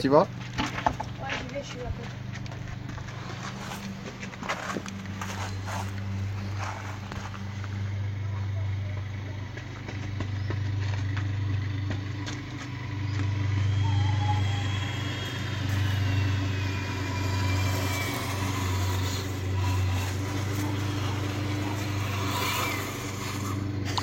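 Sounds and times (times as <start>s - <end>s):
electric motor humming: 0.0s - 24.0s
faint motor whine: 0.0s - 24.0s.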